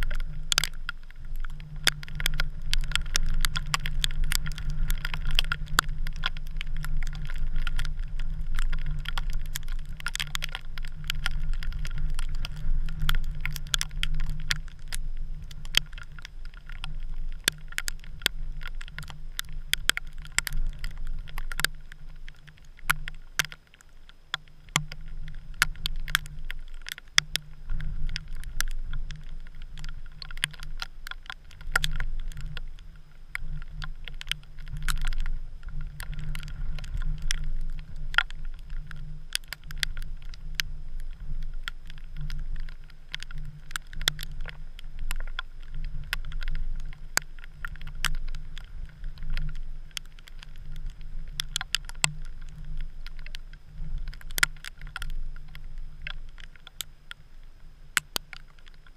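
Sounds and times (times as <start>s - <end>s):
sharp ticks and clicks: 0.0s - 58.9s
wind rumbling on a camera: 0.0s - 58.9s.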